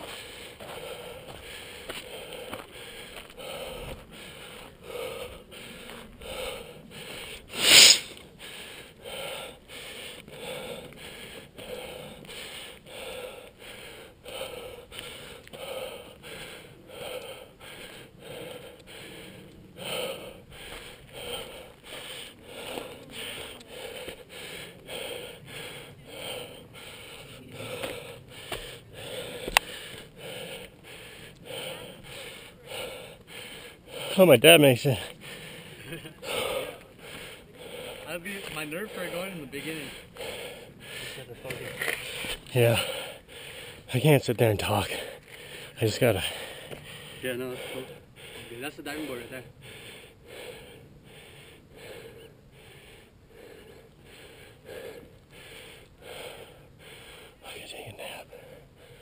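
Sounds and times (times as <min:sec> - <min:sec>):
person breathing heavily: 0:00.0 - 0:59.0.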